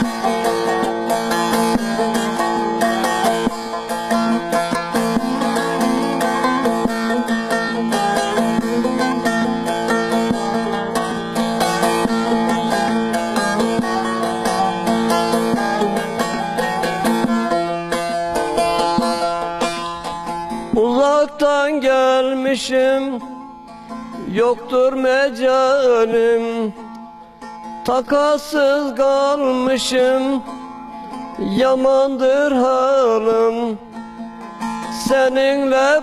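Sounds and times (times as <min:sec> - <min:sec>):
long-necked lute strummed melody: 0:00.0 - 0:36.0.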